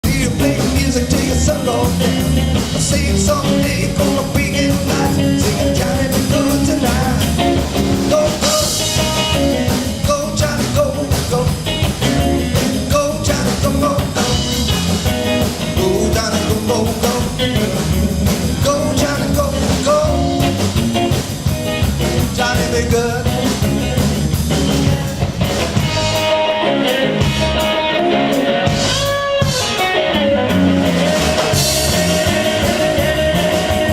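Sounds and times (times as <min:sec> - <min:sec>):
person singing: 0:00.0 - 0:14.7, 0:15.6 - 0:20.6, 0:22.2 - 0:27.0, 0:30.9 - 0:33.9
drums: 0:00.0 - 0:33.9
electric guitar: 0:00.0 - 0:33.9.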